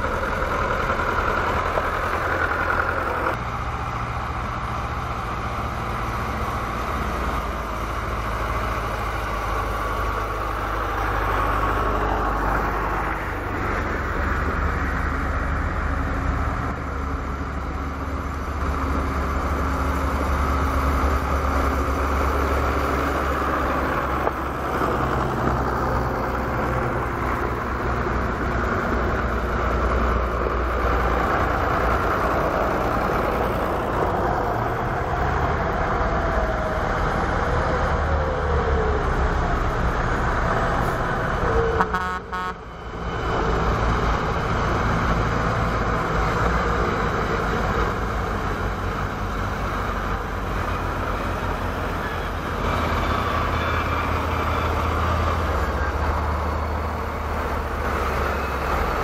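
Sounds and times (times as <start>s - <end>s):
tractors driving on gravel: 0.0s - 59.0s.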